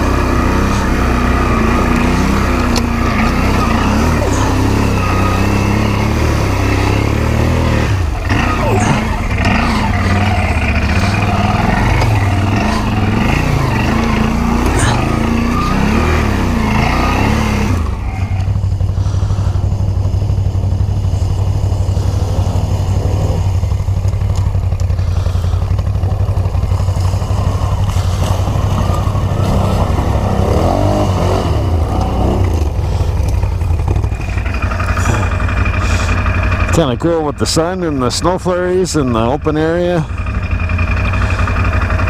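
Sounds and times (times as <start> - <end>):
atv engine drone: 0.0 - 42.0.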